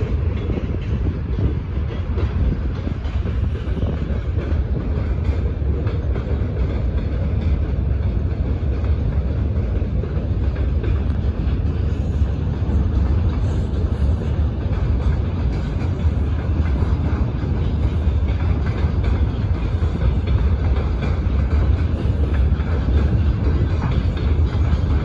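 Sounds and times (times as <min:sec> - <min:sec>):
faint wagon clatter: 0:00.0 - 0:25.0
freight train wheels rumbling: 0:00.0 - 0:25.0.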